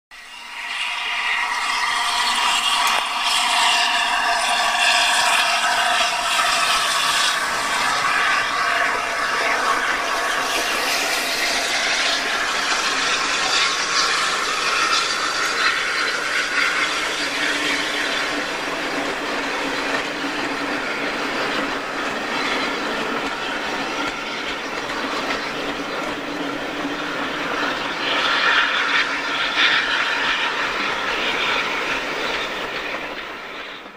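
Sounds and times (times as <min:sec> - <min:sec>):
coach wheels on rails: 0:00.2 - 0:33.9.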